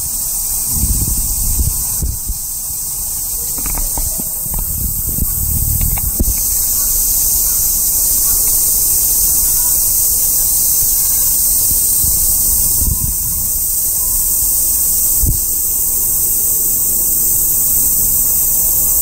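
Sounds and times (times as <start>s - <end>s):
cicadas chorus: 0.0s - 19.0s
wind rumbling on microphone: 0.0s - 19.0s.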